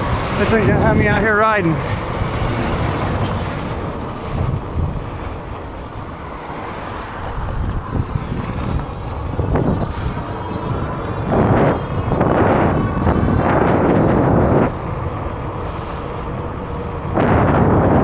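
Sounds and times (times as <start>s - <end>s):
low rumble of bike ride: 0.0s - 18.0s
wind buffeting microphone: 0.0s - 18.0s.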